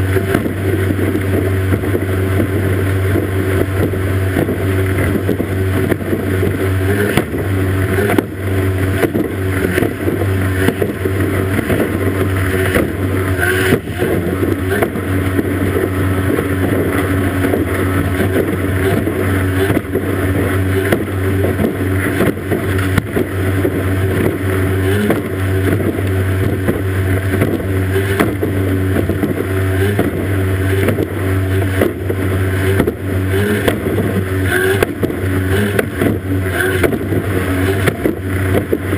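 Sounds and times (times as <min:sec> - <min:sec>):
outboard motor at high revs: 0:00.0 - 0:38.9
rush of spray and wind: 0:00.0 - 0:38.9.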